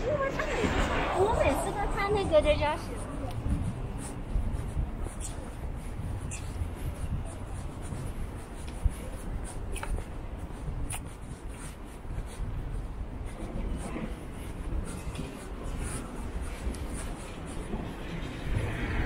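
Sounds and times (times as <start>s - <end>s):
rustling against camera microphone: 0.0s - 18.6s
low street rumble: 0.0s - 19.0s.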